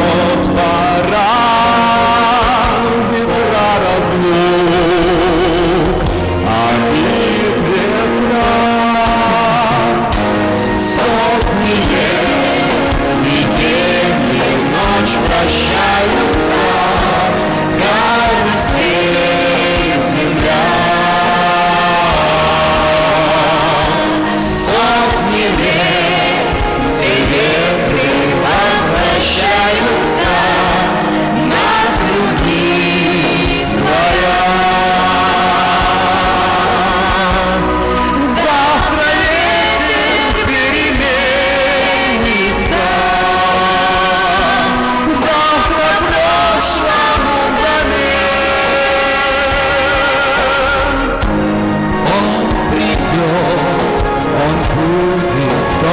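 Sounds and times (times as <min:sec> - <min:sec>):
instrumental backing: 0:00.0 - 0:55.9
person singing long notes: 0:00.0 - 0:55.9.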